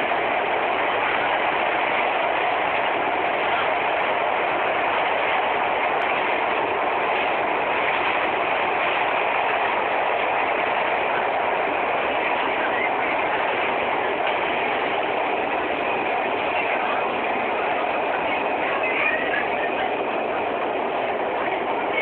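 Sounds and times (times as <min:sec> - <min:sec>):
moving train rushing: 0:00.0 - 0:22.0.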